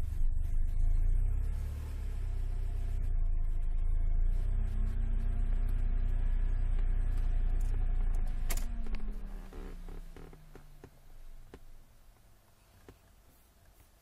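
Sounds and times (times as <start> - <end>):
car engine droning: 0.0 - 13.7.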